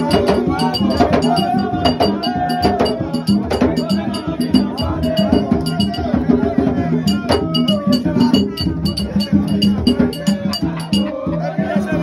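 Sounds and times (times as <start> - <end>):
sharp percussion clicks: 0.0 - 6.1, 7.1 - 11.1
crowd voices: 0.0 - 12.0
drumming: 0.0 - 12.0.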